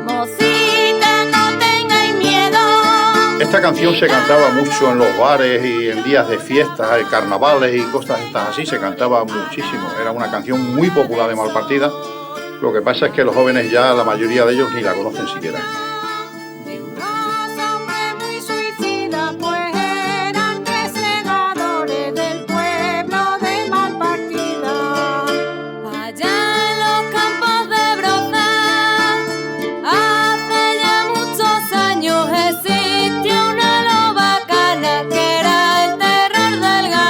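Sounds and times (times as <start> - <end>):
folk song on plucked strings: 0.0 - 37.0
person singing: 0.0 - 37.0.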